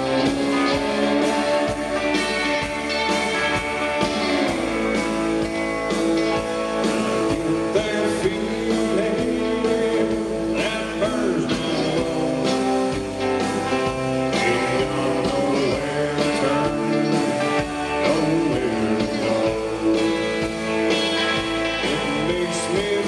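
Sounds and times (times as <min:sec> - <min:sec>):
guitar rock music: 0:00.0 - 0:23.0.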